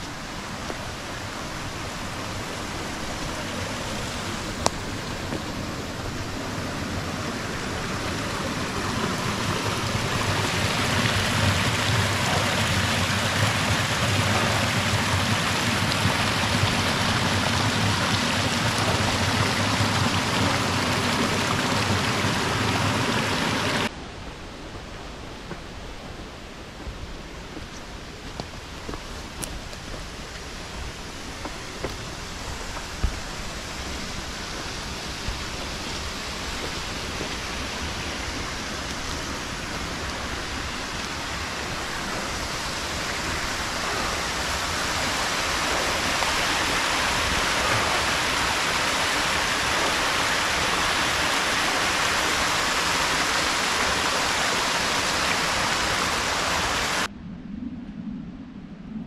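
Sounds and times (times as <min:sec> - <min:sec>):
small waterfall rushing: 0:00.0 - 0:24.0, 0:26.8 - 0:57.1.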